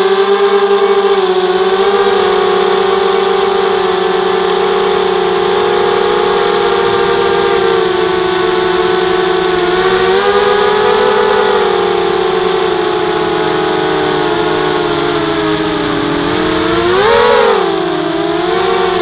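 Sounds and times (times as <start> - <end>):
quadcopter motors buzzing whine: 0.0 - 19.0.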